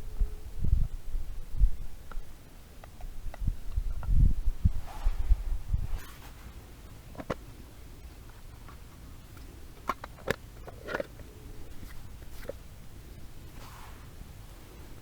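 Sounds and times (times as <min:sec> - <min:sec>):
low steady background: 0:00.0 - 0:15.0.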